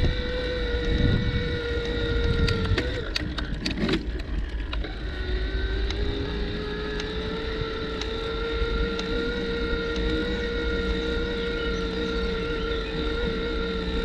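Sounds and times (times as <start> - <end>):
bicycle clicks and rattles: 0.0 - 14.0
steady whine: 0.0 - 14.0
wind rumbling on microphone: 0.0 - 14.0.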